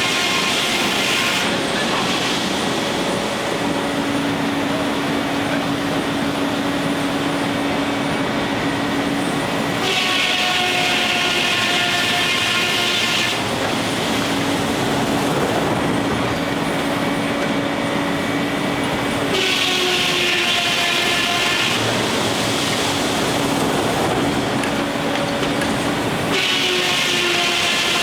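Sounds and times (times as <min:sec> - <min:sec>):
sawmill machinery noise: 0:00.0 - 0:28.0.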